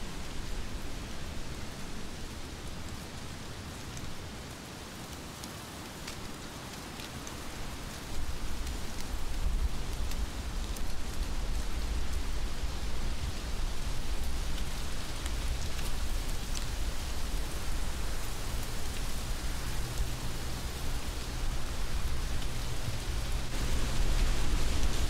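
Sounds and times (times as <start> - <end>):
heavy rain falling: 0.1 - 25.0.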